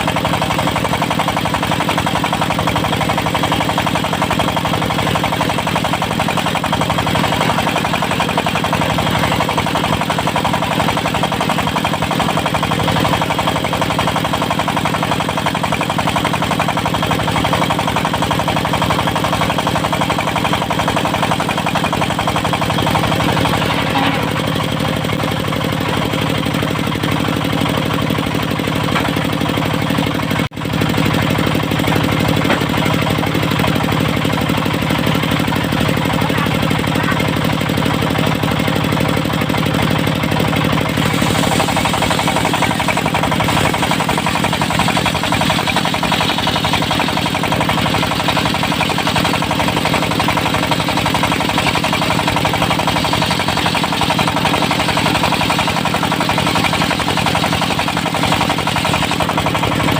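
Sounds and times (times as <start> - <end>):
sawmill diesel engine running: 0.0 - 59.9.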